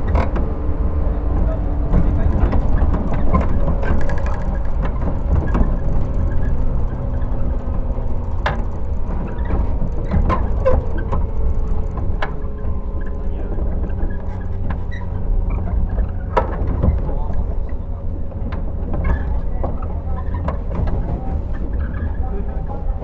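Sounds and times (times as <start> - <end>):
train wheels rumbling on rail: 0.0 - 23.0
sharp clicks and knocks: 1.4 - 22.1.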